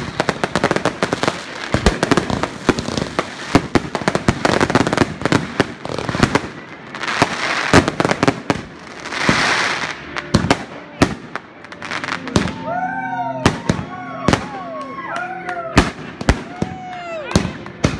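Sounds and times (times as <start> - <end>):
firework bangs: 0.0 - 12.6, 15.8 - 17.9
whistling fireworks: 0.0 - 12.7, 15.8 - 17.9.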